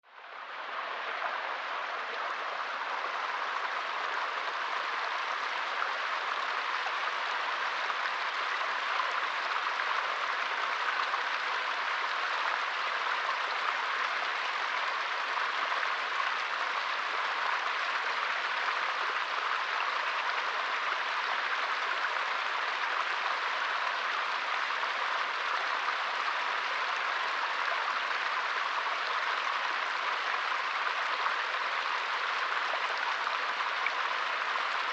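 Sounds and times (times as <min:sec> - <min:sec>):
small stream babbling: 0:00.0 - 0:34.9.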